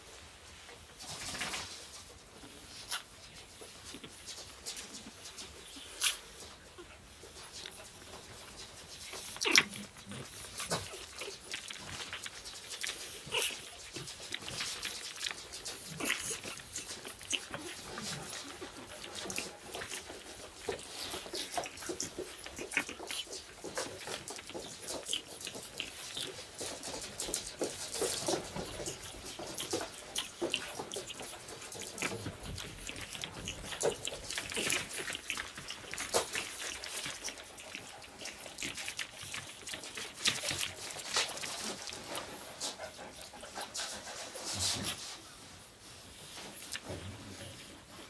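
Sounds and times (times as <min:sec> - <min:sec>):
puppies scratching and rustling: 0:00.0 - 0:48.0.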